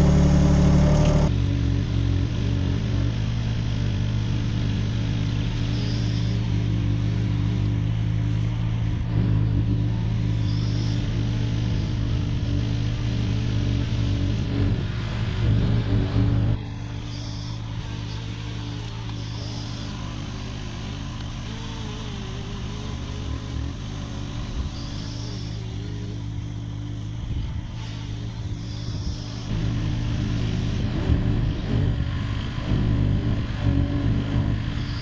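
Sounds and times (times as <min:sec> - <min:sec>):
excavator diesel engine running: 0:00.0 - 0:35.0
faint wavering whine: 0:00.0 - 0:35.0.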